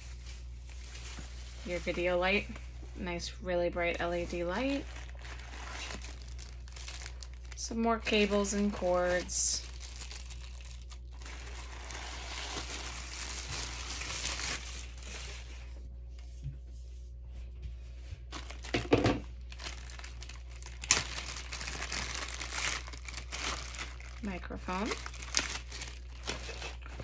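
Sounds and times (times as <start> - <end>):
plastic packaging crinkling: 0.0 - 2.6, 3.8 - 15.7, 18.3 - 27.0.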